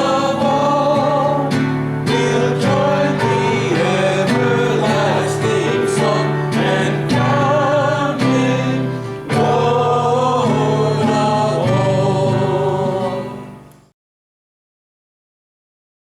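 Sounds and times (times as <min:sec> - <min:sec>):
instrumental accompaniment: 0:00.0 - 0:13.9
voices singing a hymn: 0:00.0 - 0:13.9.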